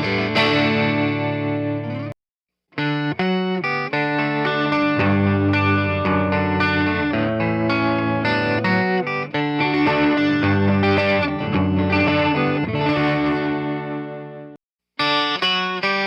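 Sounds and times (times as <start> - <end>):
electric guitar strumming chords: 0.0 - 2.1, 2.8 - 16.0.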